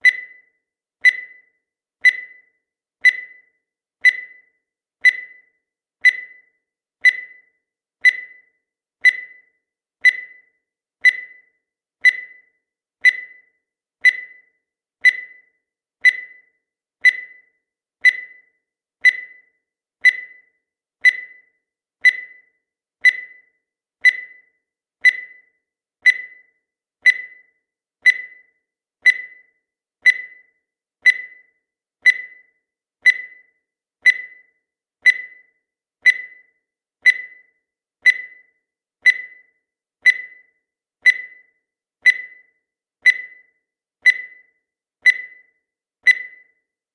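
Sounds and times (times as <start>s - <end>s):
high-pitched electronic timer tick: 0.0s - 46.8s.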